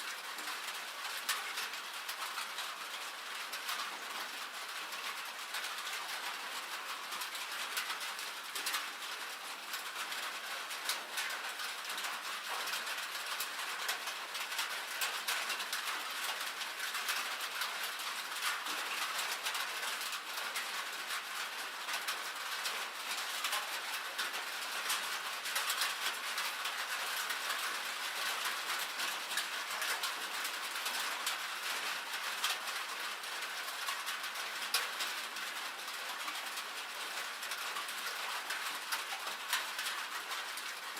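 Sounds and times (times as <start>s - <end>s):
rain and hail on metal roof: 0.0s - 40.9s.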